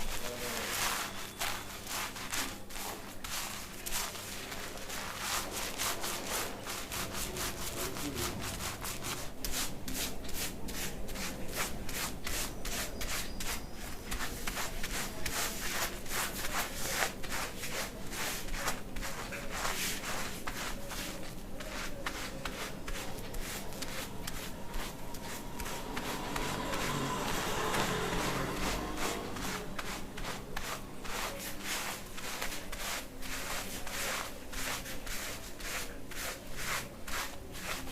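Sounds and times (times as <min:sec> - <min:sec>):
fingers scratching scalp: 0:00.1 - 0:37.9.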